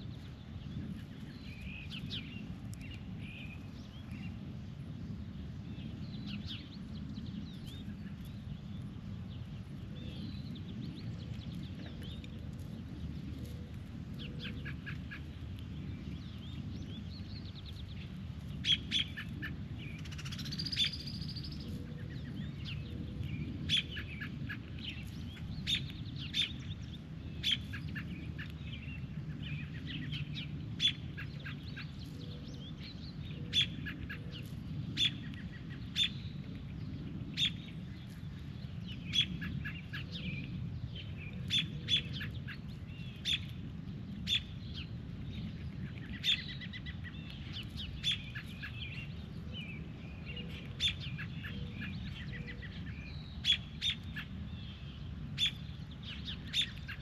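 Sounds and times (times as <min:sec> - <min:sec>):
low steady rumble: 0:00.0 - 0:57.0
birds chirping: 0:05.1 - 0:57.0.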